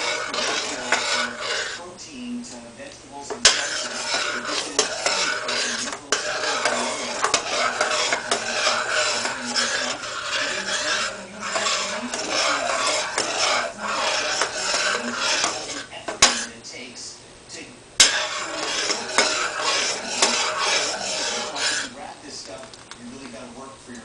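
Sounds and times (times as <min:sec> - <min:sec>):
spoon scraping a metal saucepan: 0:00.0 - 0:01.8, 0:03.3 - 0:16.6, 0:18.0 - 0:22.0.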